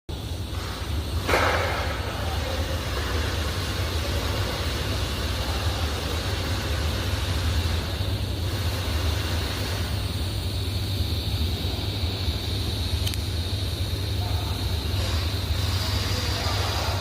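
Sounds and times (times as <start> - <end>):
low electrical hum: 0.1 - 17.0
welding arc buzzing: 0.2 - 17.0.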